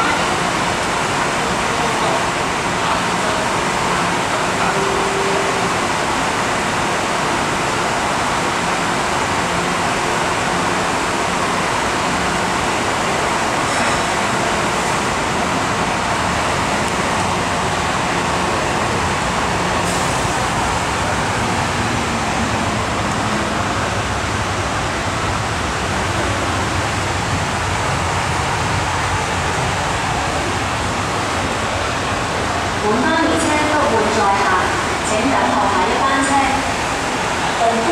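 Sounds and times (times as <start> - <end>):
metro train passing platform: 0.0 - 37.9.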